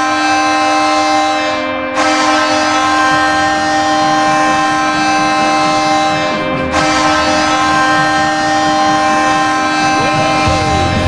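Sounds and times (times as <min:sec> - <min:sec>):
goal horn sounding: 0:00.0 - 0:11.0.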